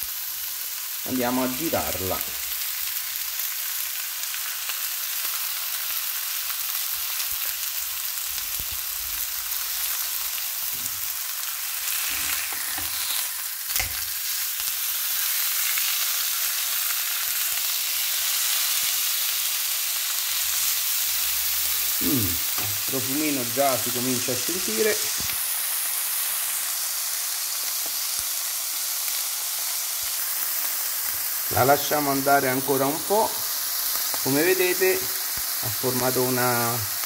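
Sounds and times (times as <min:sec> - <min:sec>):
steaks sizzling in frying pan: 0:00.0 - 0:37.0.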